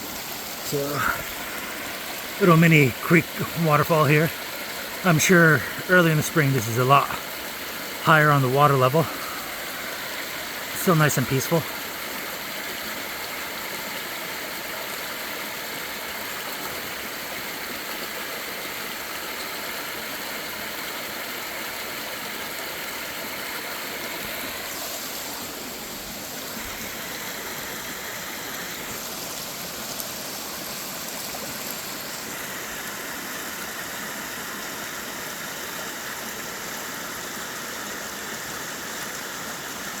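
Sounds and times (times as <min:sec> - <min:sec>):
water splashing over small waterfall: 0:00.0 - 0:40.0.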